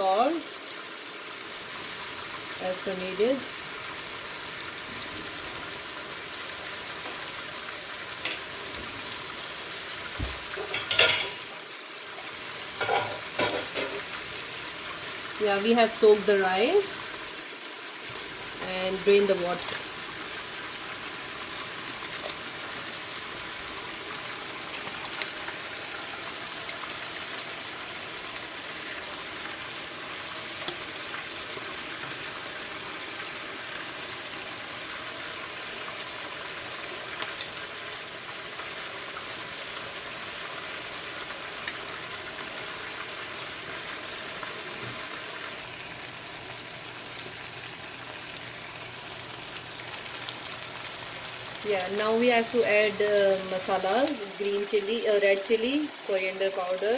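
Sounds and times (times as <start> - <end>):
chicken sizzling in hot oil: 0.0 - 56.9.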